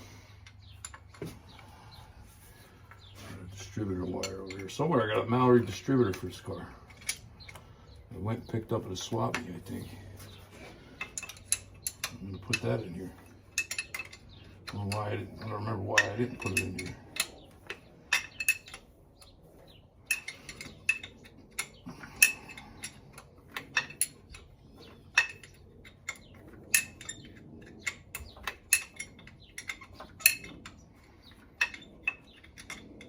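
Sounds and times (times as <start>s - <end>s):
metal tools clinking: 0.2s - 1.7s, 2.5s - 33.0s.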